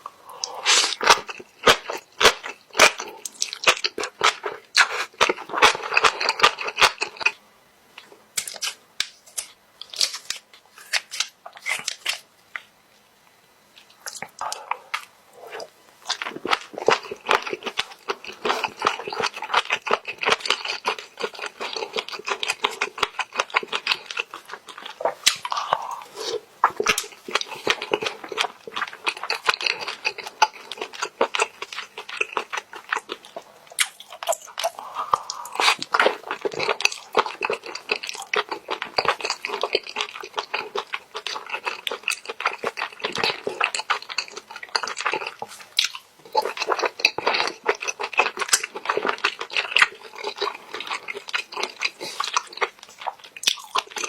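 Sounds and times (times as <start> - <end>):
person chewing: 0.0 - 7.4, 13.8 - 54.0.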